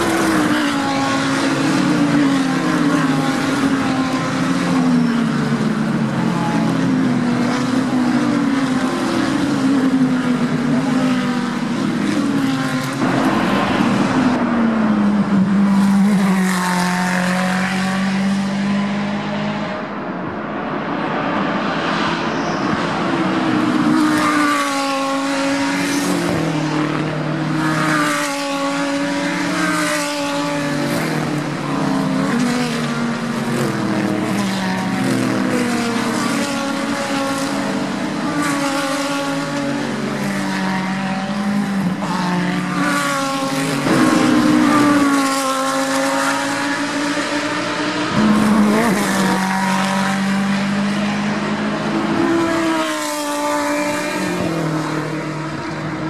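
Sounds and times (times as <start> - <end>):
race cars passing: 0.0 - 56.0.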